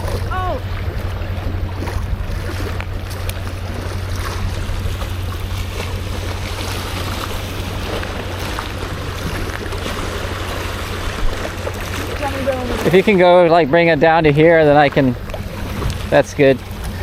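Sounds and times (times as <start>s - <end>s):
waves washing against shore: 0.0s - 17.0s.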